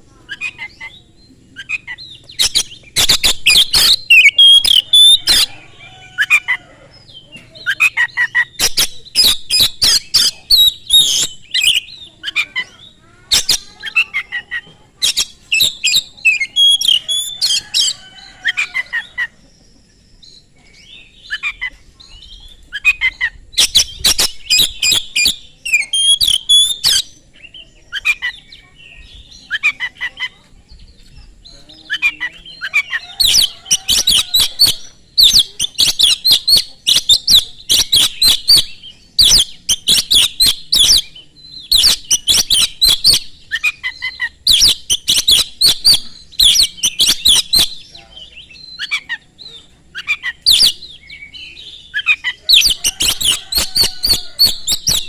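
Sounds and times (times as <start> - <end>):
bird singing fast: 0.0 - 55.0.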